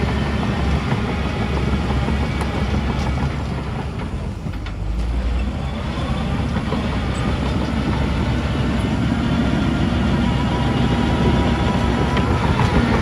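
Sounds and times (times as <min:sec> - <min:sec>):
heavy diesel machinery rumble: 0:00.0 - 0:13.0.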